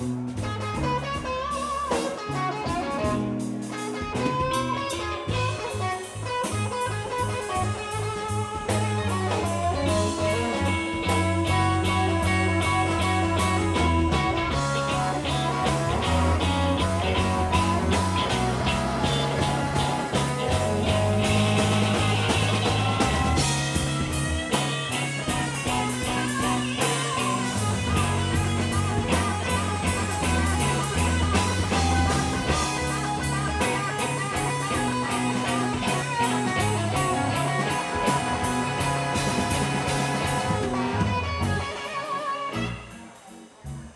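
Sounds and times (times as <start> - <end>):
blues rock band playing: 0.0 - 43.9.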